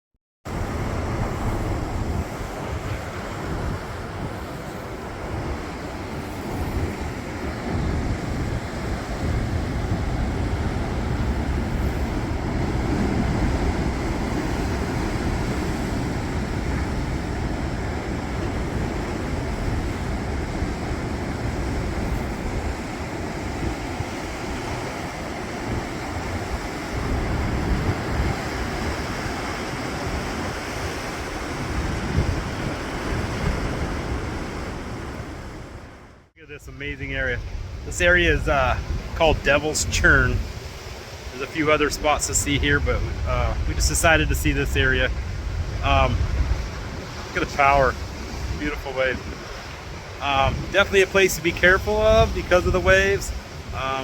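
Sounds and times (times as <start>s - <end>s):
wind buffeting microphone: 0.5s - 36.0s, 36.7s - 54.0s
surf churning through rocky inlet: 0.5s - 54.0s.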